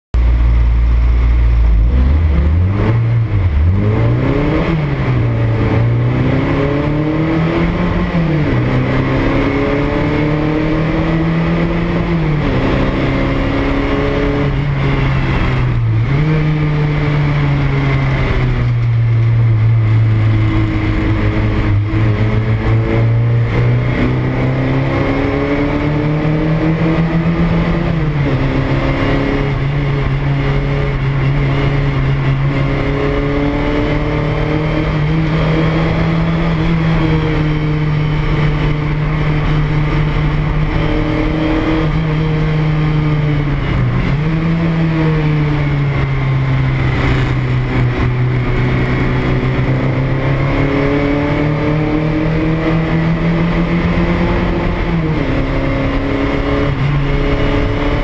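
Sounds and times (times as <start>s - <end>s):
race car engine accelerating and shifting: 0.2s - 58.0s.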